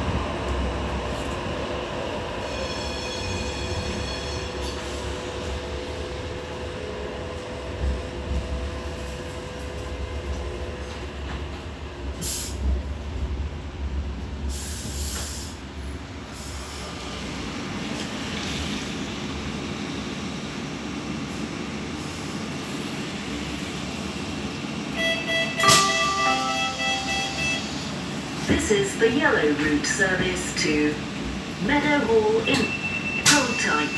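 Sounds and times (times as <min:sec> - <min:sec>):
tram running rumble: 0:00.0 - 0:33.9.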